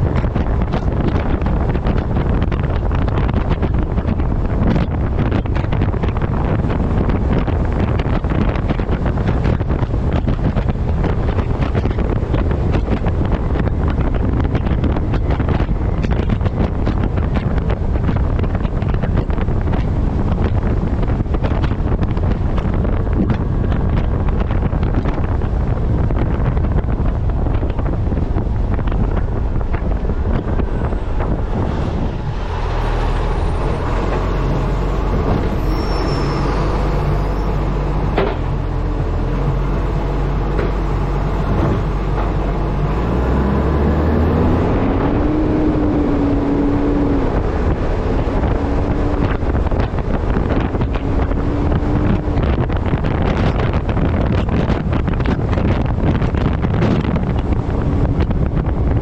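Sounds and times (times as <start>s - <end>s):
diesel truck engine revving: 0.0s - 59.0s
wind rushing over camera: 0.0s - 59.0s.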